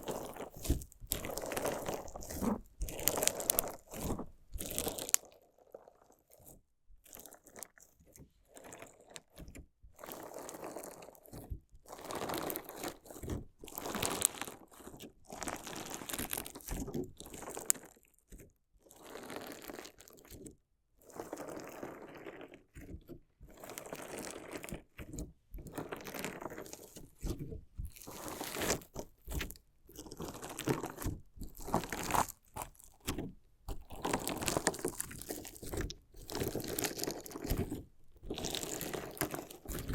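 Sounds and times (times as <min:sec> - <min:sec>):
crunchy slime crunching and squishing: 0:00.0 - 0:09.4, 0:10.0 - 0:20.4, 0:21.0 - 0:39.9.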